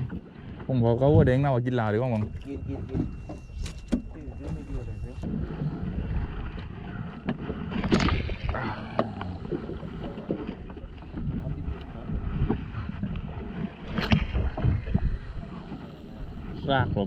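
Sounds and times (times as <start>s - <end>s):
low rumble: 0.0s - 17.0s
water slapping against boat: 0.0s - 17.0s
wind on microphone: 0.0s - 17.0s.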